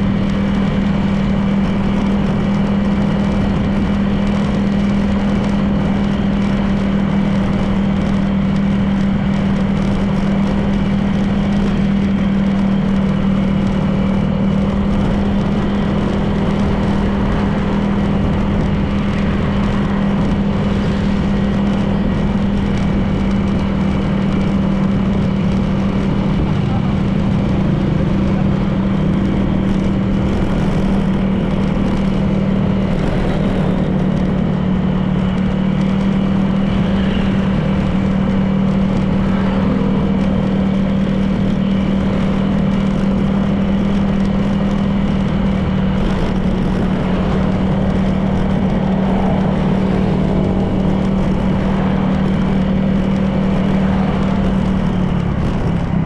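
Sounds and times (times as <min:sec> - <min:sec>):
road noise: 0:00.0 - 0:56.0
scooter engine humming: 0:00.0 - 0:56.0.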